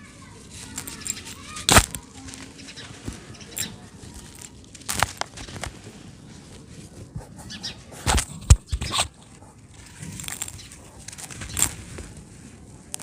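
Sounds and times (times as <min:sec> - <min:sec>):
dry dirt crunching: 0:00.3 - 0:13.0.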